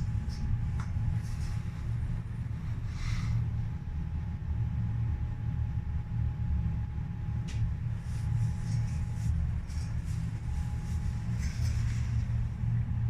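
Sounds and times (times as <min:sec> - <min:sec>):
faint hum: 0:00.0 - 0:13.0
low rumble: 0:00.0 - 0:13.0.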